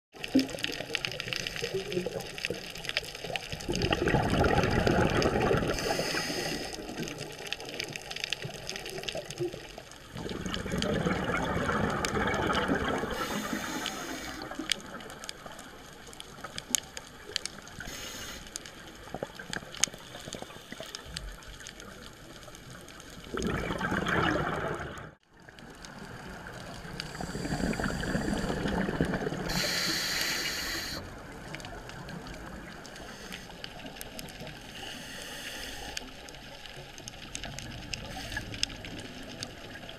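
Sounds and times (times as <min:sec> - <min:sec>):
underwater exhaled bubbles: 0:00.2 - 0:39.9.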